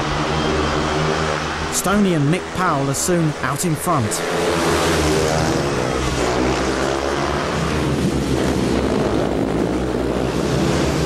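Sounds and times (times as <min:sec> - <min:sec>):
motorcycle engines racing: 0:00.0 - 0:11.0.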